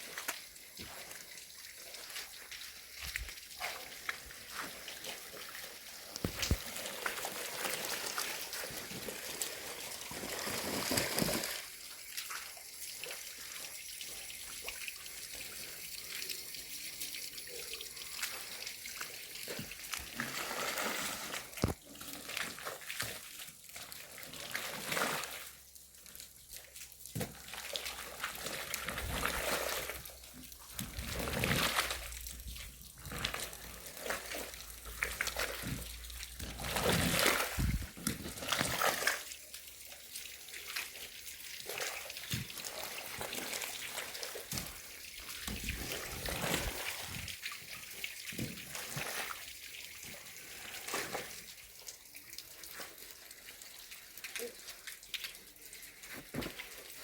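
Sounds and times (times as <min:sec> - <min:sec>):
water running and splashing: 0:00.0 - 0:57.0.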